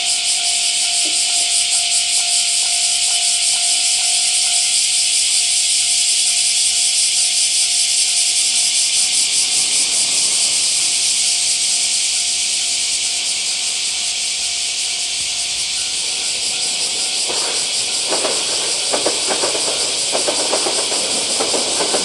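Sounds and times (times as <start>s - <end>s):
faint low train rumble: 0.0s - 22.0s
loud high-pitched hiss: 0.0s - 22.0s.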